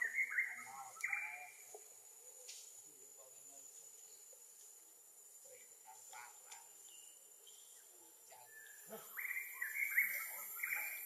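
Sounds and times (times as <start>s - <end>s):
insects pulsing buzz: 0.0s - 11.0s.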